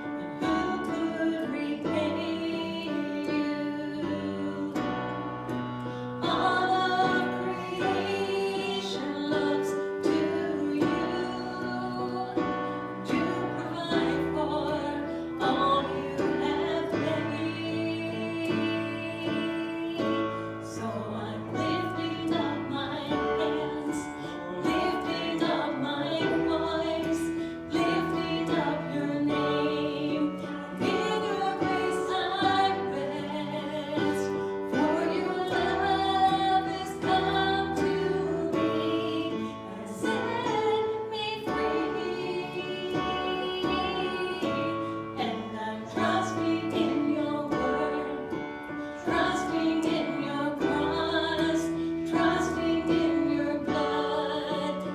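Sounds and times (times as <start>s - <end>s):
voices singing together: 0.0s - 54.9s
woman singing: 0.0s - 54.9s.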